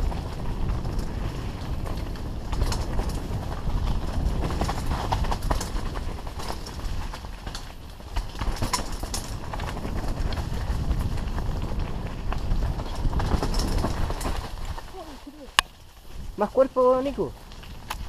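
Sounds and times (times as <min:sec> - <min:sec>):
bike rattling over bumps: 0:00.0 - 0:18.0
wind and tyre rumble: 0:00.0 - 0:18.0.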